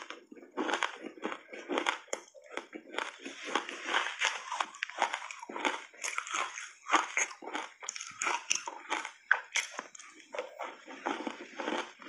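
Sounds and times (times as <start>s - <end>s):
ice chunks being chewed: 0.0s - 12.0s.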